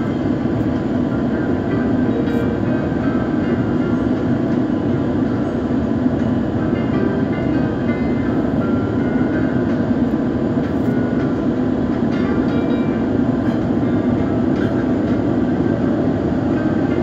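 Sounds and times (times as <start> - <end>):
airplane landing rumble: 0.0 - 17.0.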